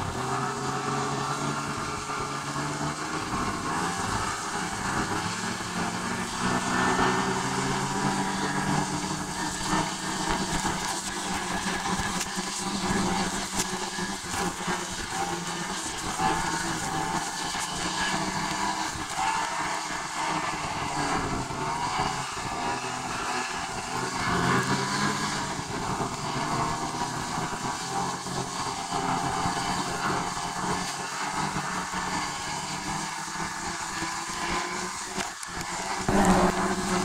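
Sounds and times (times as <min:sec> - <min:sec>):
vehicle road and engine noise: 0:00.0 - 0:37.0.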